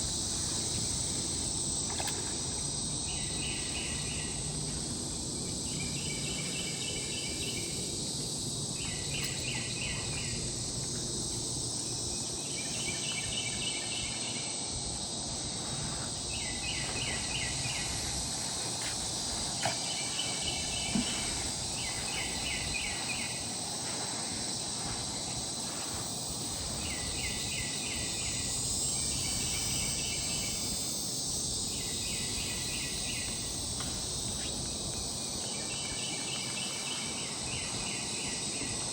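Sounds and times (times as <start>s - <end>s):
high-pitched insect hiss: 0.0s - 38.9s
pulsed insect trill: 0.0s - 38.9s.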